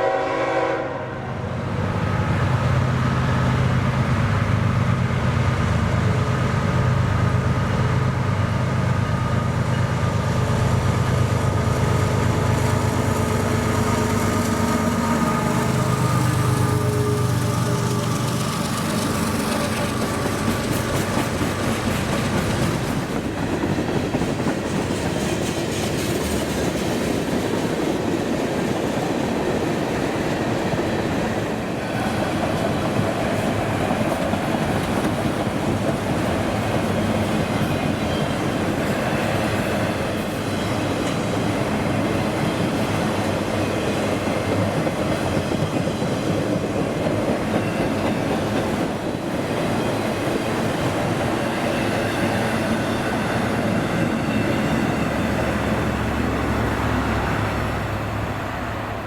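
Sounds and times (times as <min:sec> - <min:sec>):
train wheels clacking on rails: 0:05.8 - 0:59.0.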